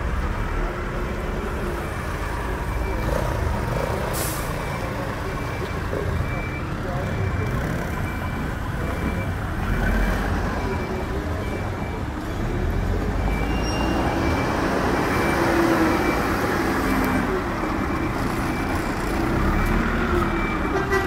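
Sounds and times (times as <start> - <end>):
backhoe diesel engine working: 0.0 - 21.0
reversing alarm beeping: 1.8 - 12.2, 13.1 - 20.8.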